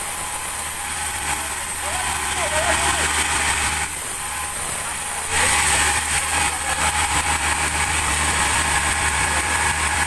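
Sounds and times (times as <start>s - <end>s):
sawmill machinery running: 0.0s - 10.0s.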